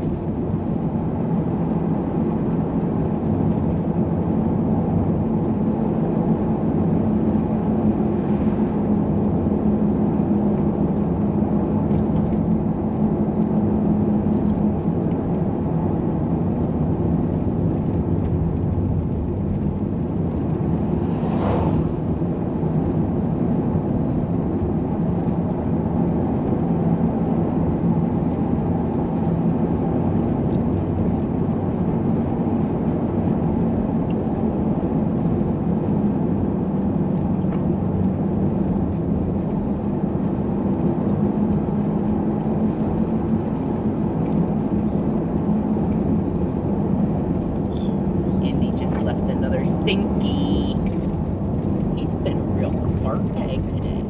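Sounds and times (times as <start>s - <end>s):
road noise inside a van: 0.0s - 54.0s.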